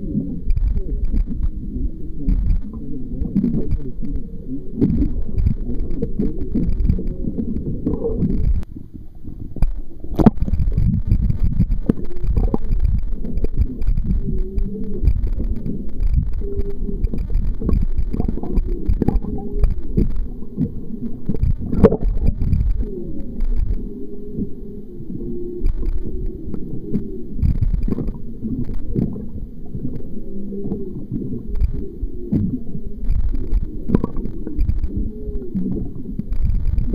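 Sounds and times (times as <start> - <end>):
rumbling water noise: 0.0 - 36.9
whale calls underwater: 0.0 - 36.9.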